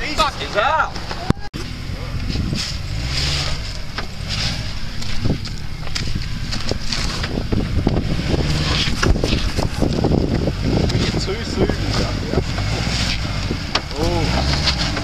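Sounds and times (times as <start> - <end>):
car engine and tyres on rocks: 0.0 - 15.0
wind buffeting microphone: 2.2 - 15.0.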